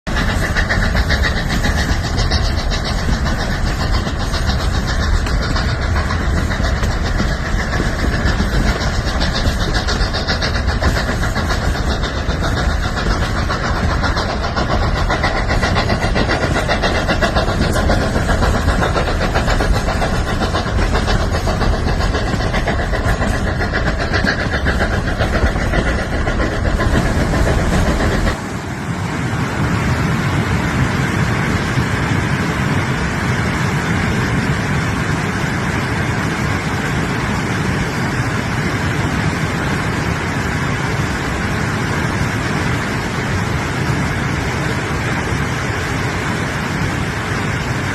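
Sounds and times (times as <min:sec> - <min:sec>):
train running: 0:00.0 - 0:47.9.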